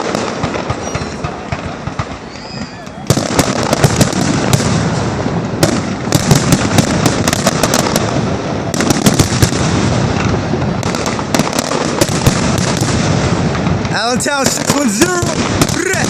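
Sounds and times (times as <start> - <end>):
fireworks crackling and popping: 0.0 - 16.0
rumble of firework bursts: 0.0 - 16.0.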